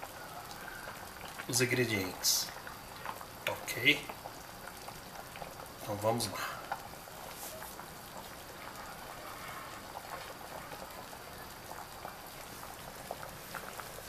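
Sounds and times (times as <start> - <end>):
pot boiling and bubbling: 0.0 - 14.0.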